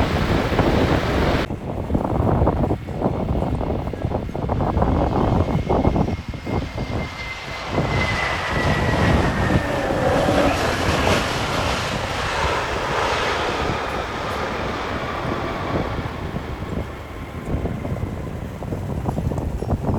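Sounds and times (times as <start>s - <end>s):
jet engines passing: 0.0s - 19.9s
wind buffeting microphone: 0.0s - 19.9s.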